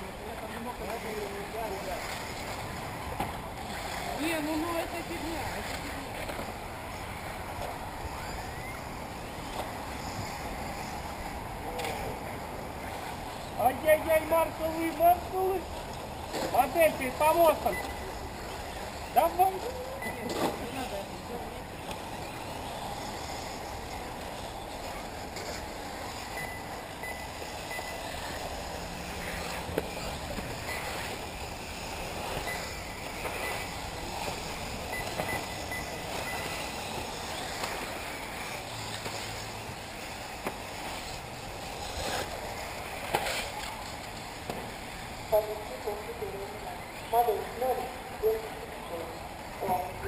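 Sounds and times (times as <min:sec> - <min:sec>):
faint high whine: 0:00.0 - 0:50.0
rc car motors whirring: 0:00.0 - 0:50.0.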